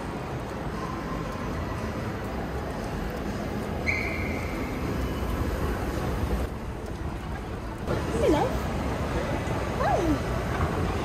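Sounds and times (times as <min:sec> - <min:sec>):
escalator rumbling: 0:00.0 - 0:11.0.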